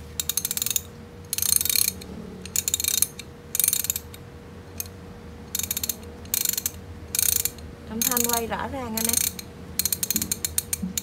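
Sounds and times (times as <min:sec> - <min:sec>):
ratchet pawl clicking: 0:00.2 - 0:11.0.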